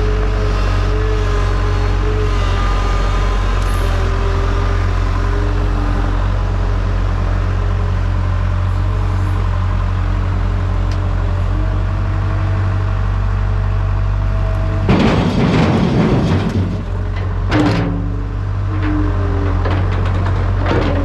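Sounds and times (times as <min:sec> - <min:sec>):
large engine running steadily: 0:00.0 - 0:21.0.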